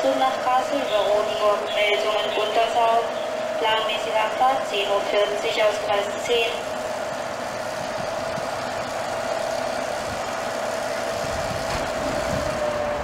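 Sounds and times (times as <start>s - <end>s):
constant whining tone: 0.0s - 13.0s
locomotive mechanical hum: 0.0s - 13.0s.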